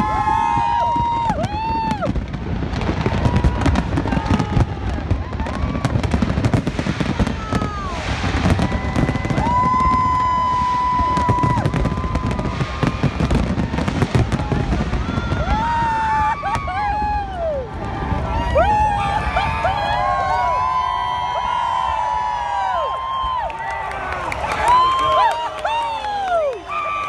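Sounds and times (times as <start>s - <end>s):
firework bursts and crackling: 0.0s - 27.0s.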